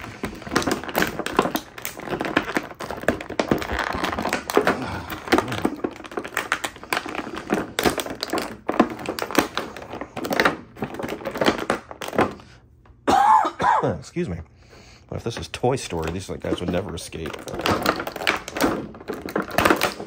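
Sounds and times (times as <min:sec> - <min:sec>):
plastic blister tray crinkling: 0:00.0 - 0:12.4, 0:15.2 - 0:20.0.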